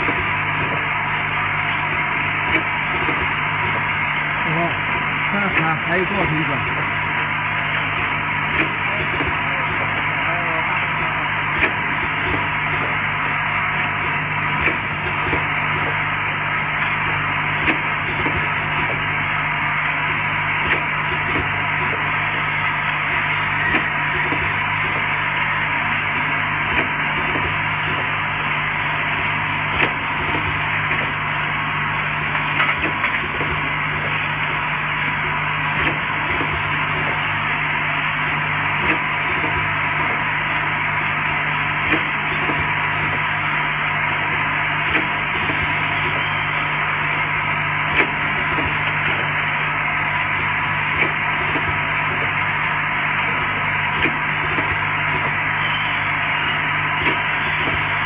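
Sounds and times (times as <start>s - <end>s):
machine whirring: 0.0s - 58.0s.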